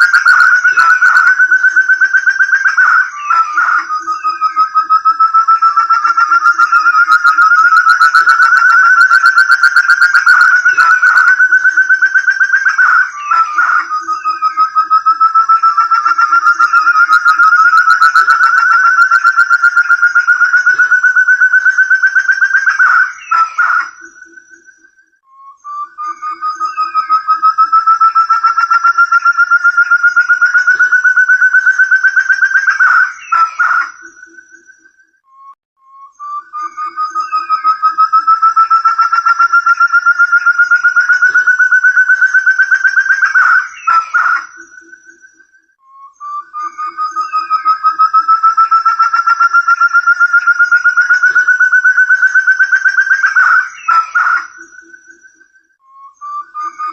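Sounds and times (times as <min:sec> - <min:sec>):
partridge whistled calls: 0:00.0 - 0:35.0, 0:36.1 - 0:56.9.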